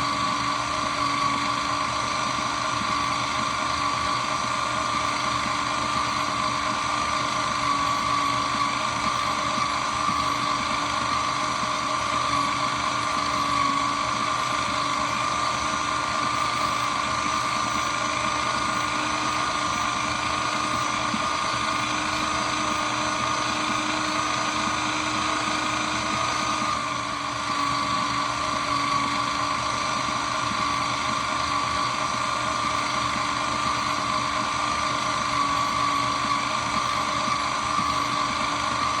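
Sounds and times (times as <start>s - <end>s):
shredder machine whining: 0.0s - 39.0s.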